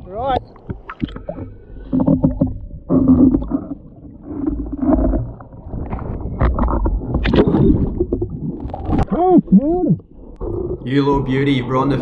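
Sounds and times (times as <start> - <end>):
churning water underwater: 0.0 - 12.0.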